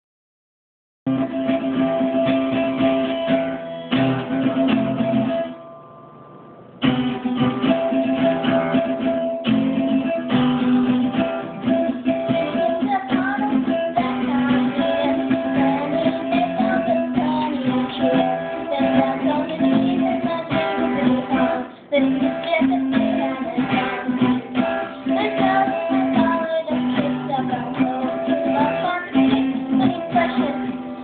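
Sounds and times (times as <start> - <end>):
girl singing: 1.1 - 3.6, 6.9 - 31.0
acoustic guitar strumming: 1.1 - 31.0.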